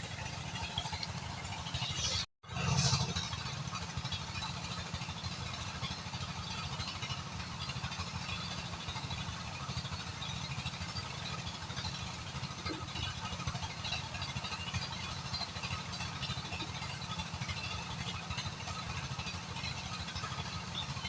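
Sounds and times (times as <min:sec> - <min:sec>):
engine idling with low pulsing: 0:00.0 - 0:21.0.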